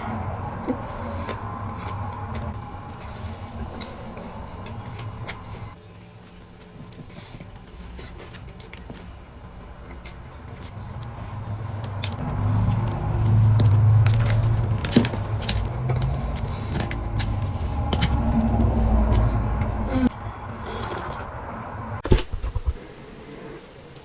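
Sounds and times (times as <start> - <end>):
low rumble: 0.0 - 5.8, 8.0 - 22.8.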